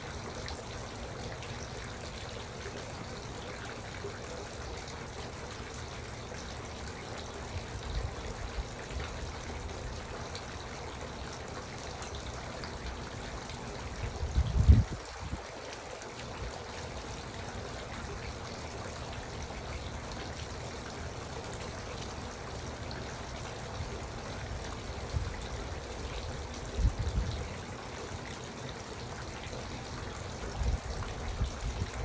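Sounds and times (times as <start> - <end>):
fountain trickling and splashing: 0.0 - 32.0.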